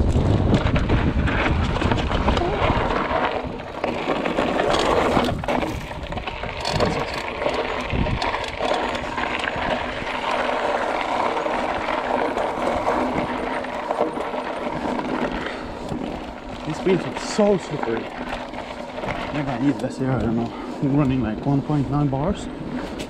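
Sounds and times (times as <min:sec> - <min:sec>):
bike clicks and rattles: 0:00.0 - 0:23.0
bike tyres crunching on gravel: 0:00.0 - 0:23.0.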